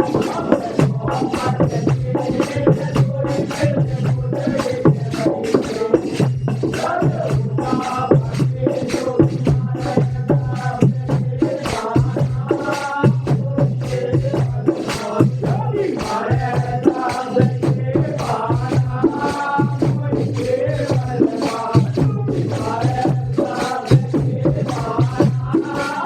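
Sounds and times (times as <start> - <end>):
devotional music: 0.0 - 26.0
percussion beat: 0.0 - 26.0.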